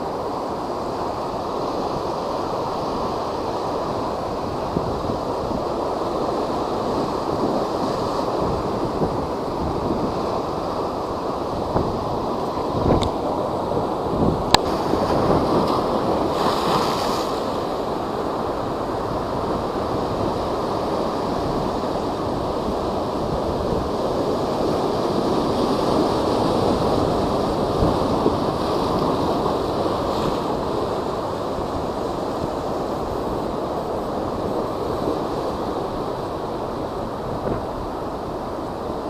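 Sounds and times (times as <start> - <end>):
high surf breaking: 0.0 - 39.0
wind blowing: 0.0 - 39.0.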